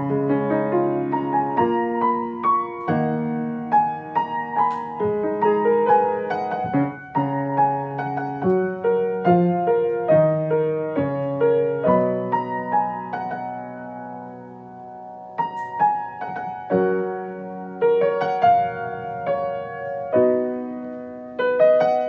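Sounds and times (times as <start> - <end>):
solo piano: 0.0 - 22.0.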